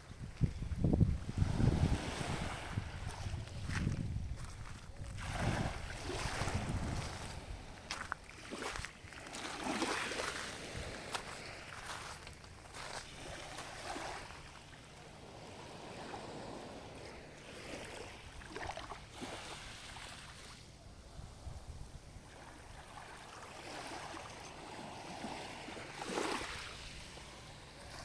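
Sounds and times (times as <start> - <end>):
small sea waves washing ashore: 1.2 - 28.0.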